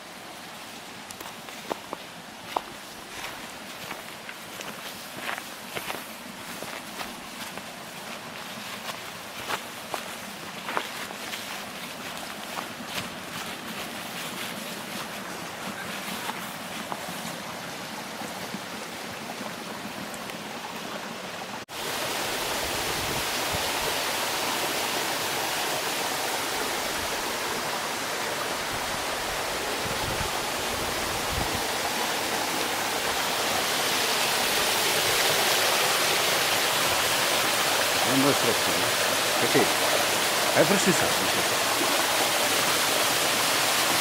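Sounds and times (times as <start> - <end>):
waterfall rushing water: 0.0 - 44.0.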